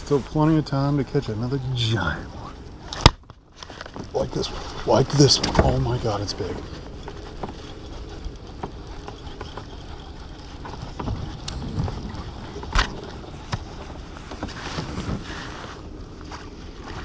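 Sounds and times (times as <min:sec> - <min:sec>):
steady rumble: 0:00.0 - 0:17.0
knocks and rattles against kayak hull: 0:03.0 - 0:17.0.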